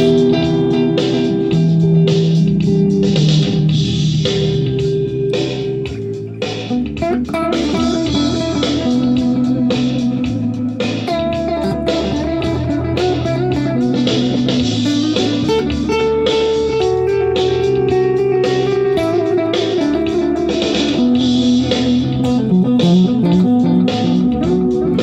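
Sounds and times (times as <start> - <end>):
electric guitar notes: 0.0 - 25.0.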